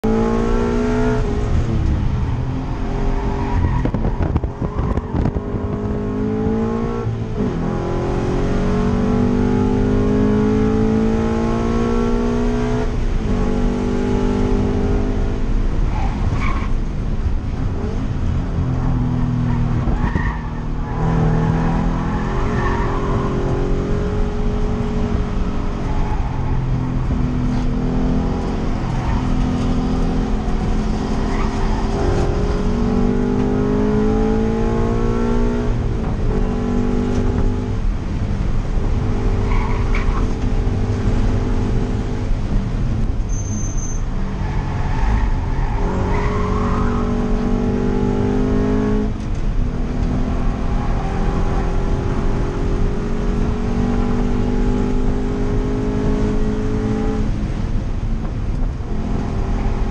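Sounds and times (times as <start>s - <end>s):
car engine revving in cabin: 0.0s - 15.7s, 17.2s - 43.3s, 45.1s - 59.9s.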